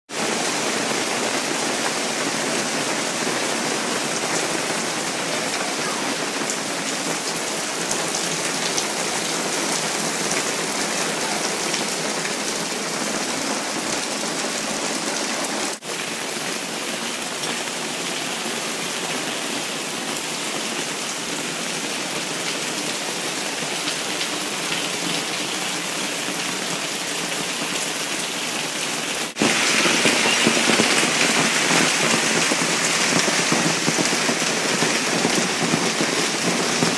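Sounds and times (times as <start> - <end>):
heavy rain and hail: 0.1 - 36.9.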